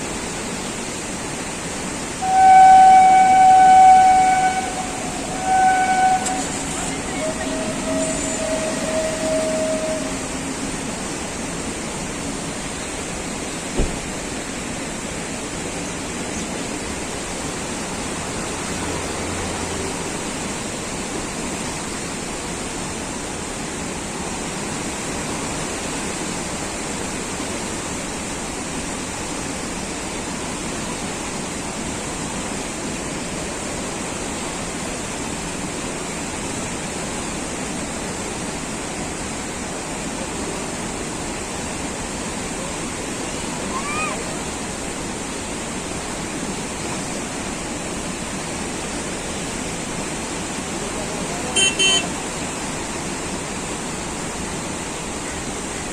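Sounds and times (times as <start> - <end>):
steady rushing noise: 0.0 - 55.9.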